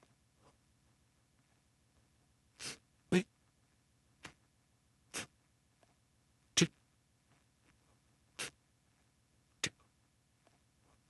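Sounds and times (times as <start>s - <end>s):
faint low background bed: 0.0s - 11.0s.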